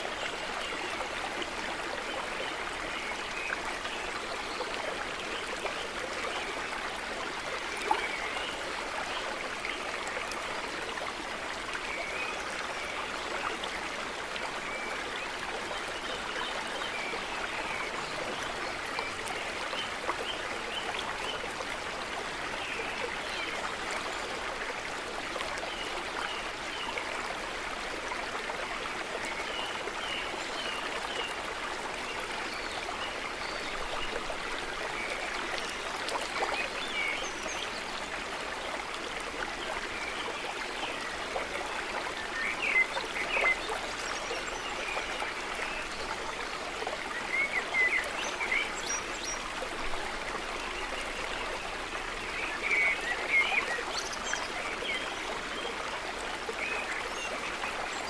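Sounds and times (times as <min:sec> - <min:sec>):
small stream running: 0:00.0 - 0:58.0.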